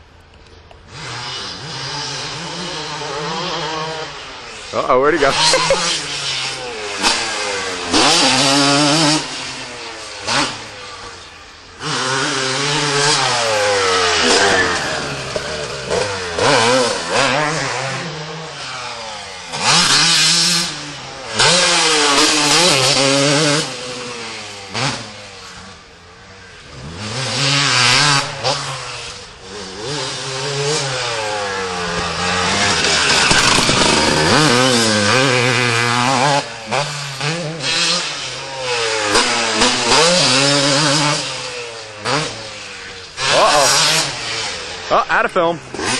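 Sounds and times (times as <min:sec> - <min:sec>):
two-stroke motocross bike revving: 0:00.0 - 0:45.9.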